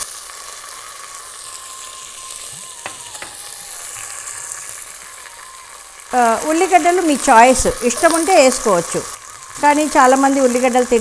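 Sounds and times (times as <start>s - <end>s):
spices sizzling in hot ghee: 0.0s - 11.0s.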